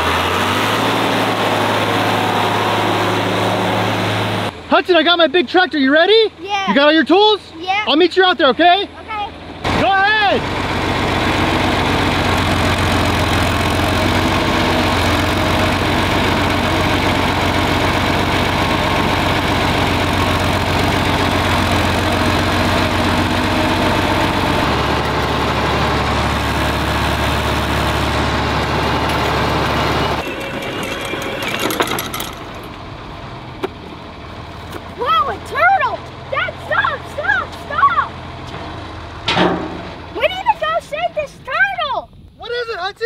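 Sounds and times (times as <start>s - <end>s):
tractor engine running: 0.0s - 42.4s.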